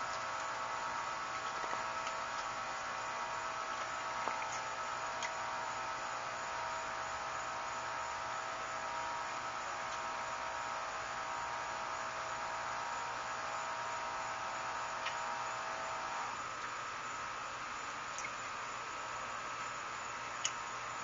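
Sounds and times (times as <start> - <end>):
constant hiss: 0.0 - 21.0
steady hum: 0.0 - 21.0.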